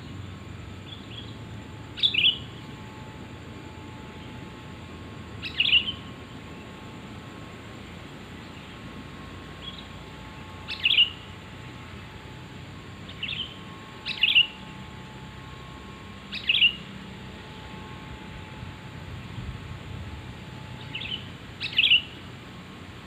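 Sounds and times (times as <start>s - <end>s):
bird calling: 0.0s - 22.4s
faint steady hum: 0.0s - 23.0s.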